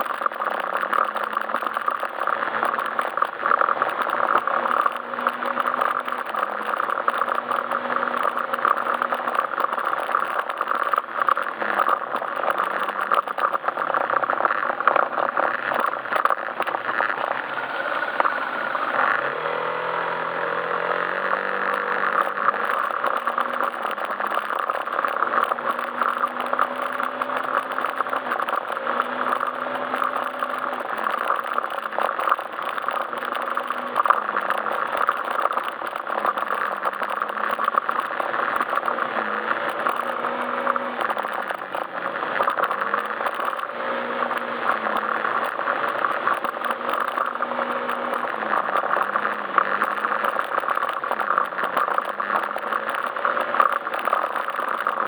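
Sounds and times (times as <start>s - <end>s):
road and wind noise: 0.0s - 55.0s
scooter engine running: 0.0s - 55.0s
small rattles: 0.0s - 55.0s.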